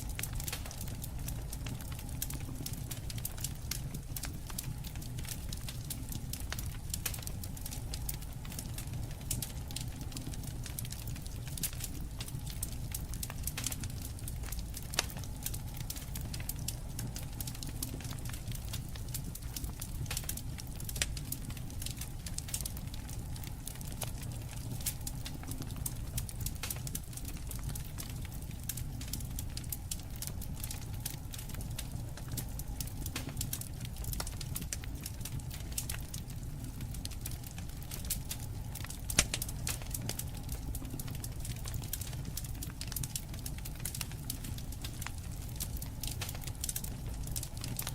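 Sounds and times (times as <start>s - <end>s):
campfire crackling: 0.0s - 47.9s
low rumble of flames: 0.0s - 47.9s.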